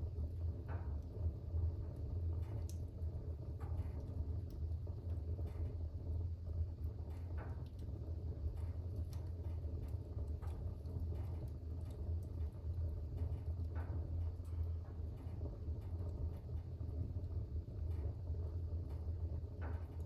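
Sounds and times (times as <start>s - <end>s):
fire crackling: 0.0s - 20.0s
fire roaring in fireplace: 0.0s - 20.0s.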